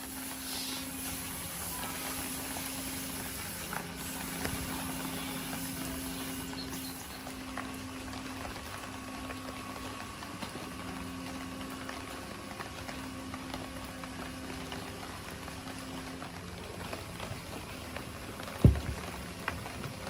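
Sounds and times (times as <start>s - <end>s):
liquid bubbling and fizzing: 0.0s - 20.0s.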